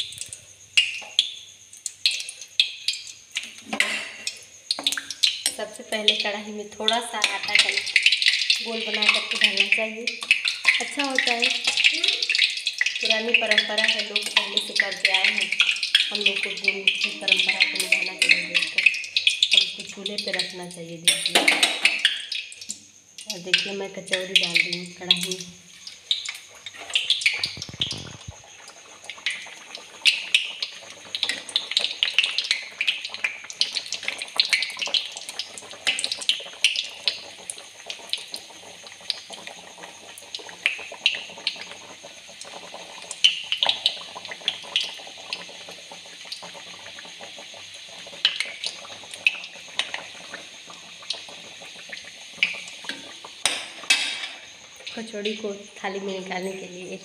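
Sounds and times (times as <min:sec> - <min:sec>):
food deep-frying in hot oil: 0:00.0 - 0:57.0.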